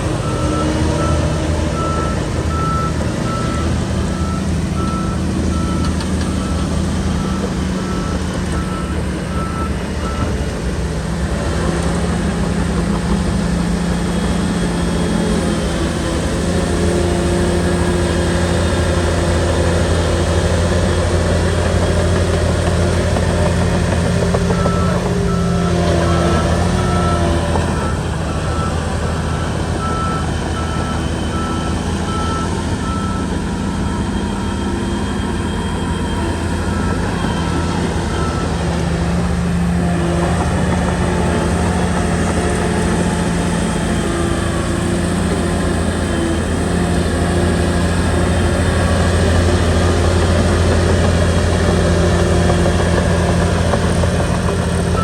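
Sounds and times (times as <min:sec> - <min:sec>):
bulldozer diesel engine running: 0:00.0 - 0:55.0
reversing alarm beeping: 0:00.1 - 0:10.8, 0:11.4 - 0:55.0.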